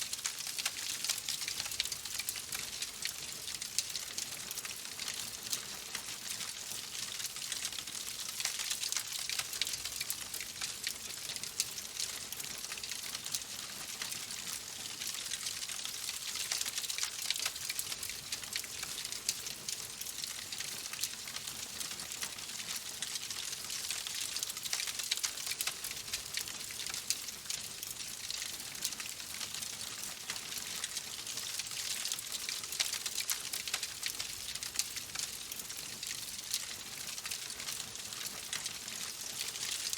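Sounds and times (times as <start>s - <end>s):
fireplace fire crackling: 0.1s - 39.9s.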